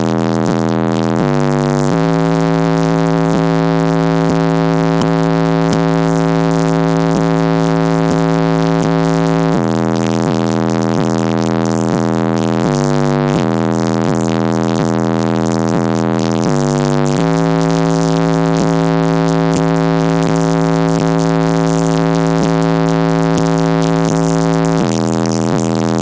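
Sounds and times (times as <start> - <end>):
car subwoofer playing bass music: 0.0 - 26.0.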